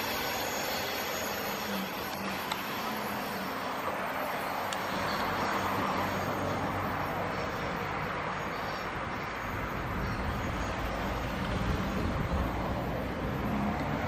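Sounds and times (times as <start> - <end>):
diesel locomotive drone: 0.0 - 14.0.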